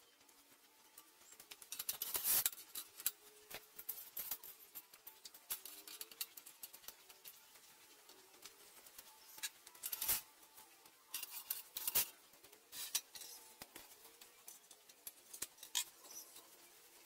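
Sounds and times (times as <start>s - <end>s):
steel tools clinking and scraping: 1.3s - 7.6s, 8.4s - 16.6s.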